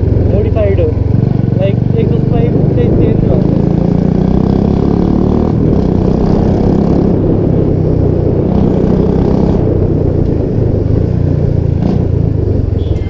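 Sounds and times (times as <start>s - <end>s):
deep loud motorcycle exhaust: 0.0s - 13.0s.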